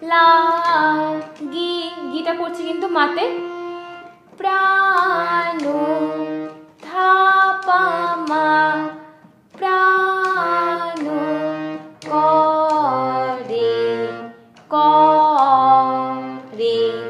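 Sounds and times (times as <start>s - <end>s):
harmonium melody: 0.0s - 17.0s.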